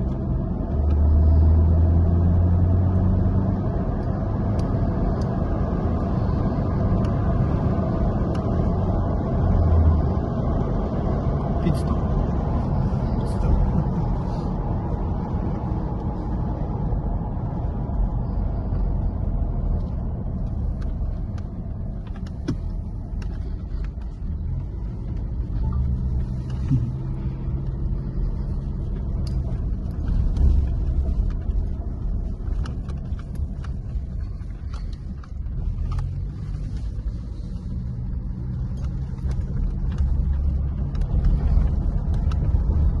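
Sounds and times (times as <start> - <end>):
car engine running: 0.0 - 43.0
low road rumble: 0.0 - 43.0.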